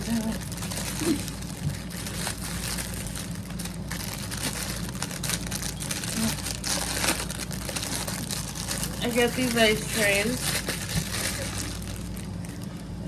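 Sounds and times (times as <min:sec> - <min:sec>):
low background hum: 0:00.0 - 0:13.0
plastic packaging crinkling: 0:00.0 - 0:13.0.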